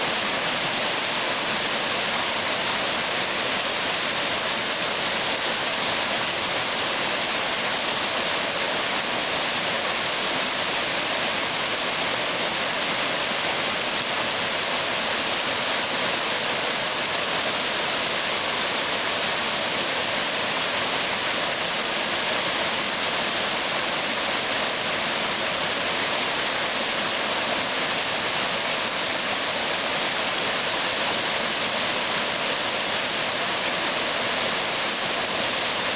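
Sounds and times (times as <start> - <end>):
fast-flowing white water: 0.0 - 35.9.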